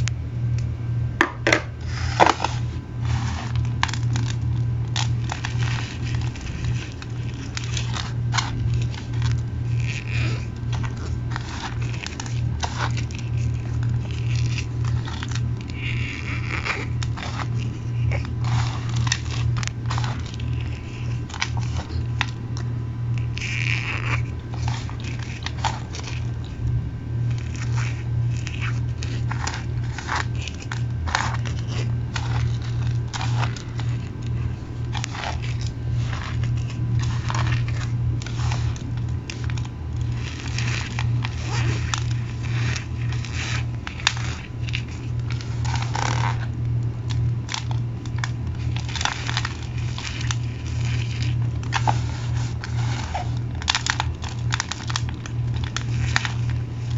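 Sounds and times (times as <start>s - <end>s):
steady low hum: 0.0s - 56.9s
cornstarch crunching between fingers: 1.2s - 56.9s.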